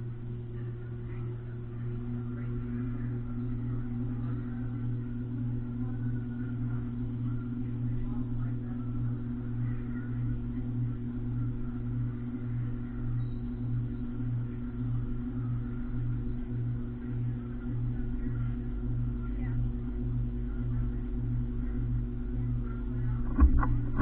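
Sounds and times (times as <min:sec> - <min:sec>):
ceiling fan humming: 0:00.0 - 0:24.0.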